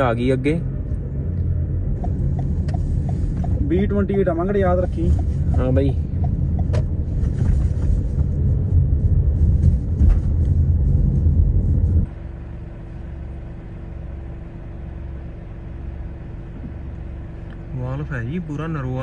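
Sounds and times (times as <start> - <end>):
car road noise rumble: 0.0 - 19.0
engine hum: 0.0 - 19.0.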